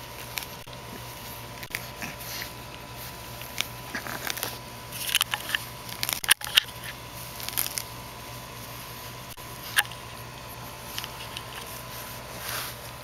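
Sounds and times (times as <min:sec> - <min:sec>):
puppy chewing grass: 0:00.0 - 0:13.0.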